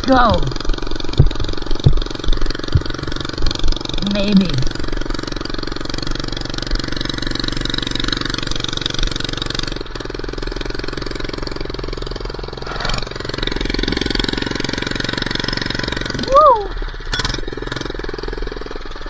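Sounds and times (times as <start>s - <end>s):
minibike engine running: 0.0s - 19.0s.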